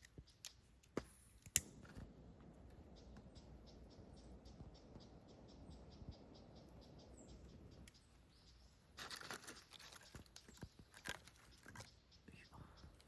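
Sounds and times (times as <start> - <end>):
campfire crackling and popping: 0.0 - 8.1, 8.9 - 12.0
faint high chirping: 2.0 - 13.0.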